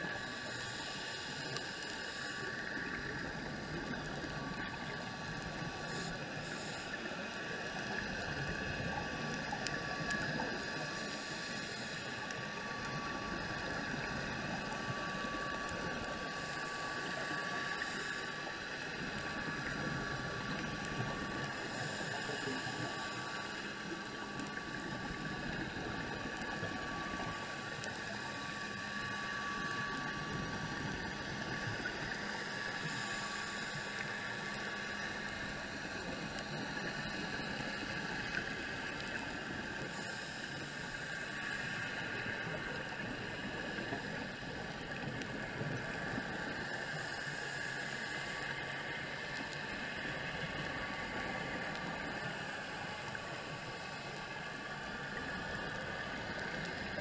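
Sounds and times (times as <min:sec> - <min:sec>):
faint ticks: 0:00.0 - 0:57.0
muffled underwater noise: 0:00.0 - 0:57.0.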